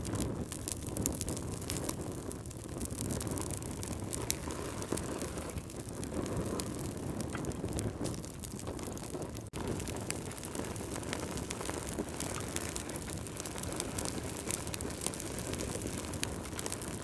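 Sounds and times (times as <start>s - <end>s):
fire popping and snapping: 0.0s - 17.0s
low rumble of fire: 0.0s - 17.0s.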